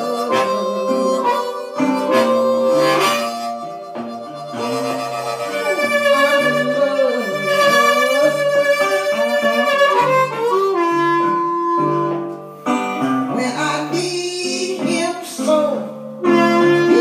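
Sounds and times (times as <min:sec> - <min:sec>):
blues backing track: 0:00.0 - 0:17.0
blues harmonica: 0:00.0 - 0:17.0.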